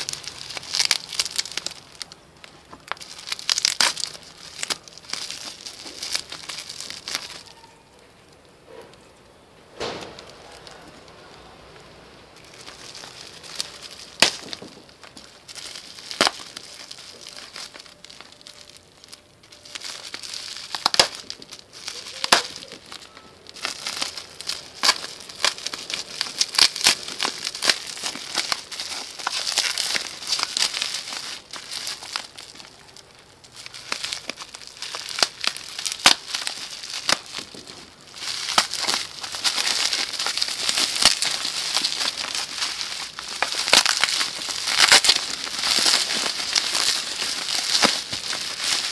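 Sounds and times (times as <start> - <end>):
bubble wrap crackling: 0.0 - 48.9.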